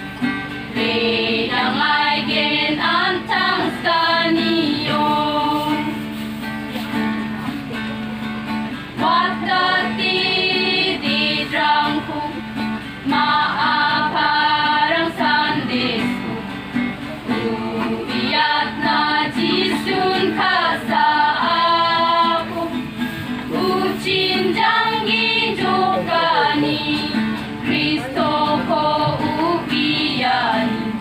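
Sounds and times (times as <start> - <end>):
women's choir singing hymn: 0.0 - 6.2, 8.8 - 16.4, 17.3 - 31.0.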